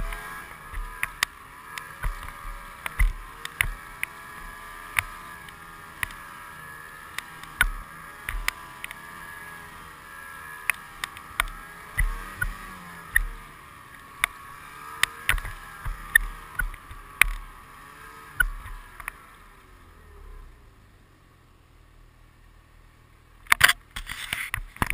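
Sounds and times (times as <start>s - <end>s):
snowmobile engine: 0.0s - 21.4s, 23.4s - 24.9s.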